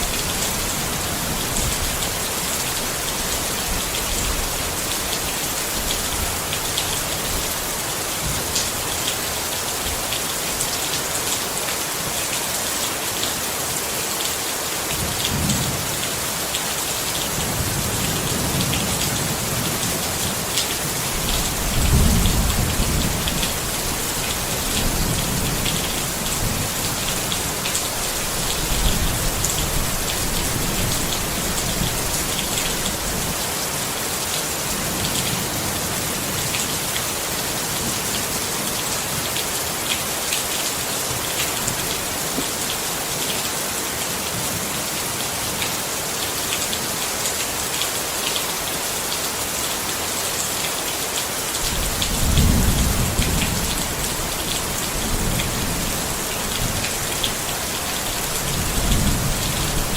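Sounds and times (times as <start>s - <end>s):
rain pattering on a tent: 0.0s - 59.9s.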